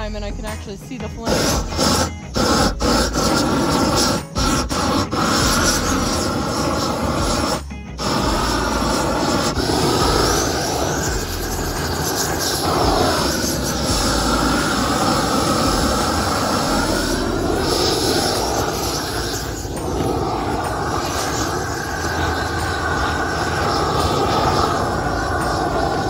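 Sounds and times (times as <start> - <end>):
propane torch burning: 0.0 - 26.0.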